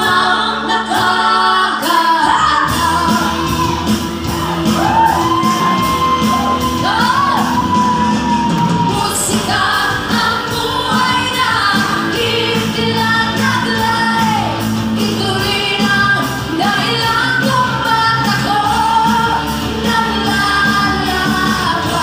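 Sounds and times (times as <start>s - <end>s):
pop-rock band playing: 0.0s - 22.0s.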